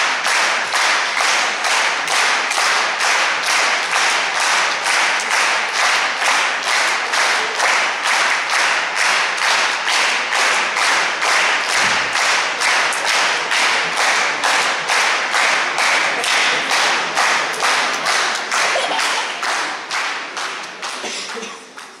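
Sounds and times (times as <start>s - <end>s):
audience clapping in rhythm: 0.0s - 22.0s.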